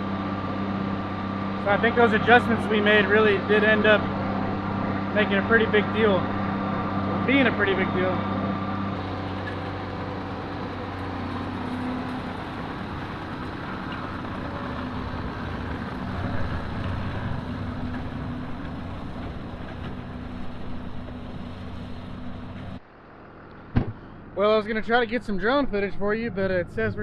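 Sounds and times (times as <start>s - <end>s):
tractor engine under load: 0.0s - 24.4s.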